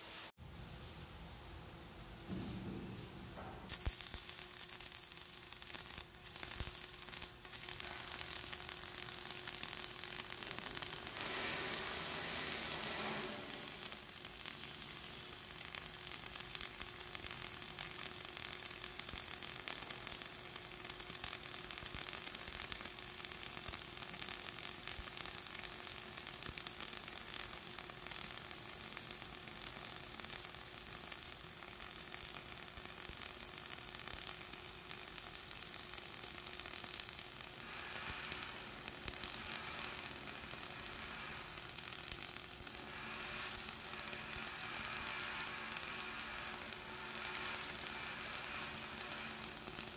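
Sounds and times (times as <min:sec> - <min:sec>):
welding arc crackling: 0:02.2 - 0:49.9.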